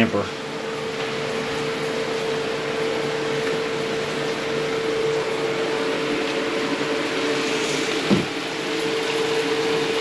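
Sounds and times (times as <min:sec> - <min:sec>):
steady hum: 0:00.0 - 0:10.0
water running into bathtub: 0:00.0 - 0:10.0.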